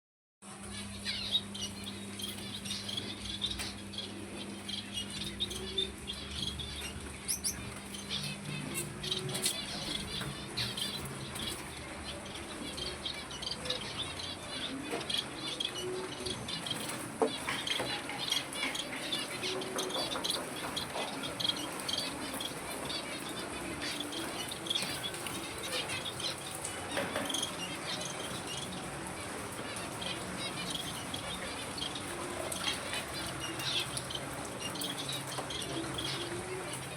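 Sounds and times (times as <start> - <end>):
birds chirping and twittering: 0.4 - 36.9
steady low hum: 0.5 - 36.9.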